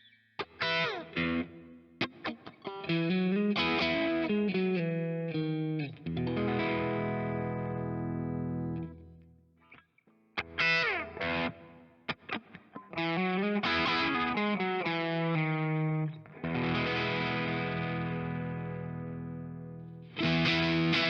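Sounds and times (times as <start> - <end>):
solo electric guitar: 0.4 - 21.0.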